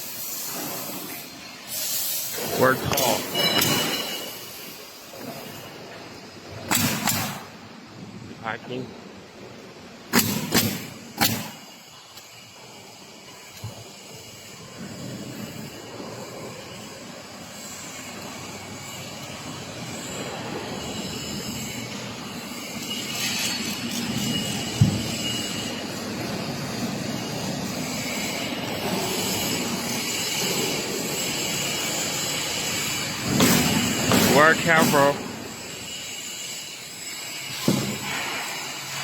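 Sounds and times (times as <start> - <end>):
steady machine noise: 0.0 - 39.0.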